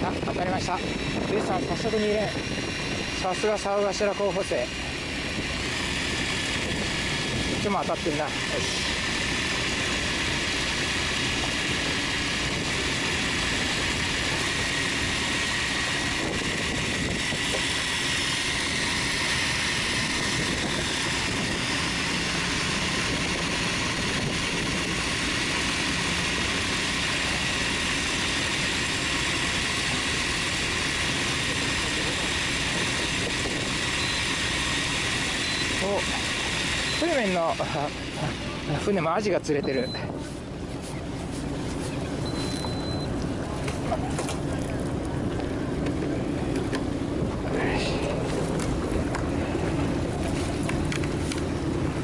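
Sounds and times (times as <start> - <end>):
boat engine idling: 0.0 - 52.0
thin high whine: 0.0 - 52.0.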